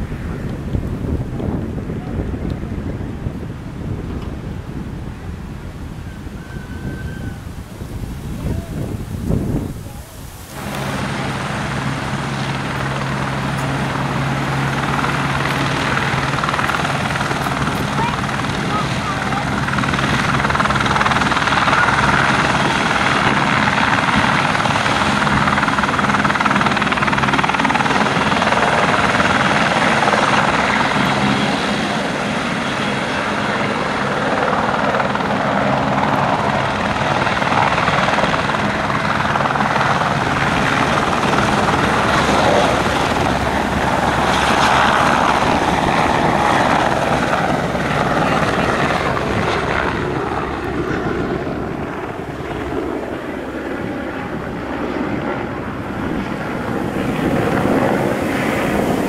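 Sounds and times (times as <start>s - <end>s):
helicopter rotor and engine noise: 0.0s - 59.0s.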